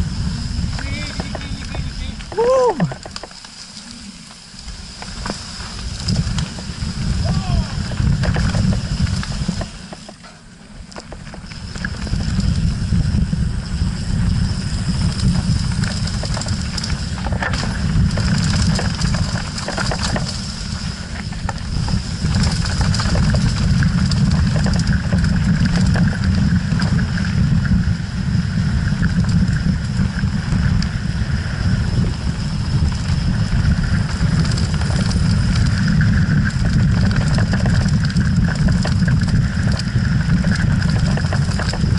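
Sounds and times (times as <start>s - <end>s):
wind buffeting microphone: 0.0s - 3.4s, 4.1s - 10.2s, 10.9s - 41.9s
bike rattling over stones: 0.0s - 41.9s.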